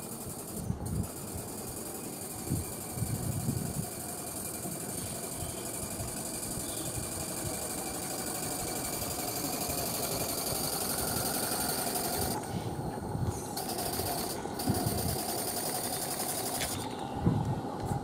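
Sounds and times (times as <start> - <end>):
steam traction engine beat: 0.0 - 18.0.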